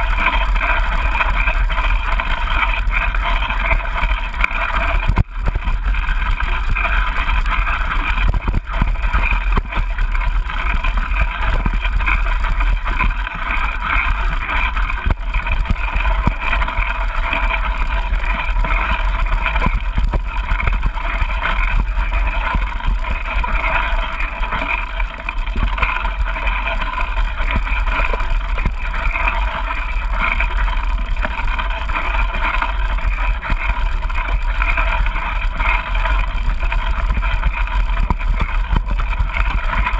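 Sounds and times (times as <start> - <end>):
bike knocks and rattles: 0.0 - 39.9.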